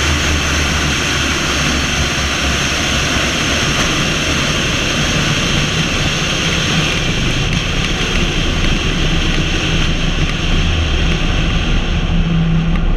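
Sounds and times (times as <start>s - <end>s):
engine and tyre drone: 0.0s - 12.9s.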